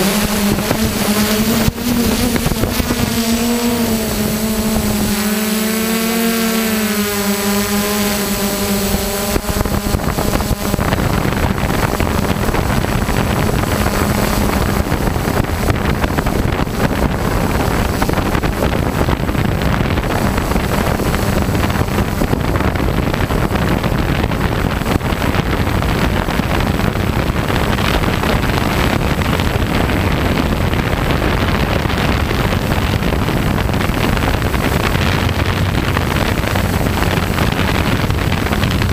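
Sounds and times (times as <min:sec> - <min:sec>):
drone motor whine: 0:00.0 - 0:38.9
wind rushing over microphone: 0:00.0 - 0:38.9.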